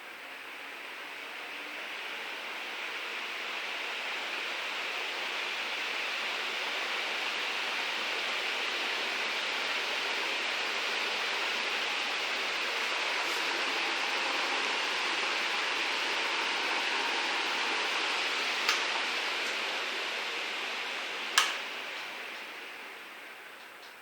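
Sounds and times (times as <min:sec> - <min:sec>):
ceiling fan running: 0:00.0 - 0:24.0.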